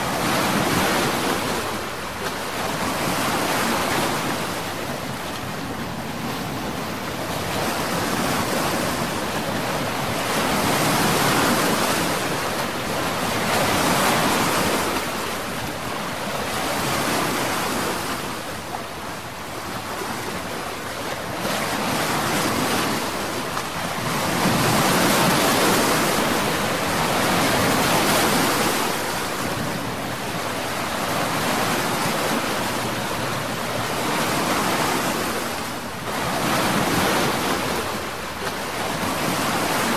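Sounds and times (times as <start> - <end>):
waves washing and breaking: 0.0 - 39.9.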